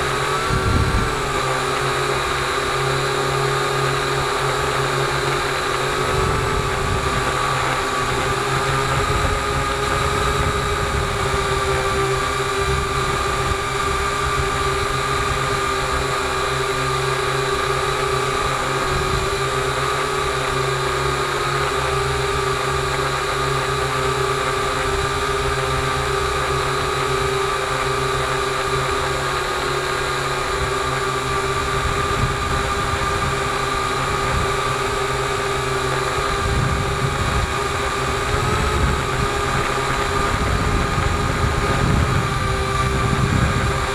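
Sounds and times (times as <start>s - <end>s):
drone propellers whining: 0.0s - 43.9s
wind rumble on microphone: 0.0s - 43.9s.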